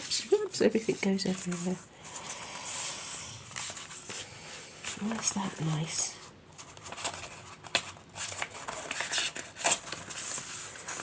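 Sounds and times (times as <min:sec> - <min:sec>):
paper rustling: 0:00.0 - 0:06.0, 0:06.6 - 0:11.0.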